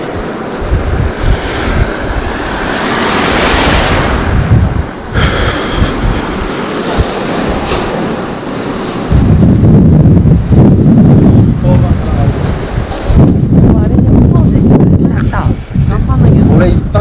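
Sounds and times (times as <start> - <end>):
road traffic: 0.0 - 16.6
surf rushing: 0.0 - 17.0
wind buffeting microphone: 0.0 - 17.0.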